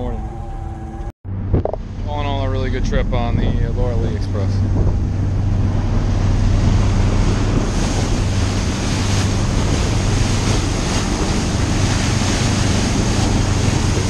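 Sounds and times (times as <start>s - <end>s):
boat engine drone: 0.0s - 14.0s
water rushing along boat hull: 0.0s - 14.0s
wind buffeting microphone: 1.3s - 14.0s.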